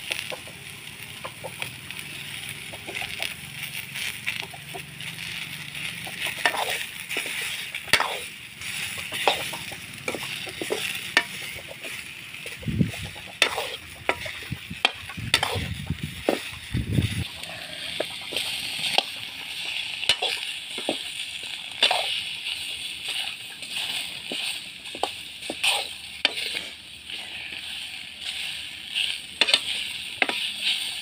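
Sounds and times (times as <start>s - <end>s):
food sizzling in a wok: 0.0s - 31.0s.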